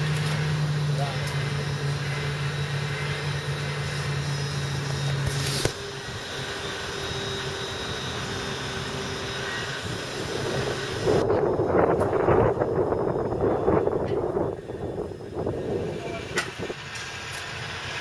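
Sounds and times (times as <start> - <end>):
fans whirring with hum: 0.0 - 18.0
low machine drone: 0.0 - 18.0.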